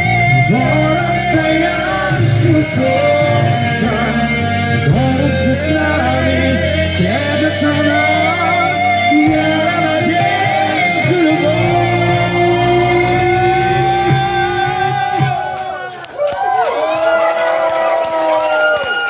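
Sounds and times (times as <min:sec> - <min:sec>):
live rock band: 0:00.0 - 0:16.0
person singing: 0:00.0 - 0:16.0.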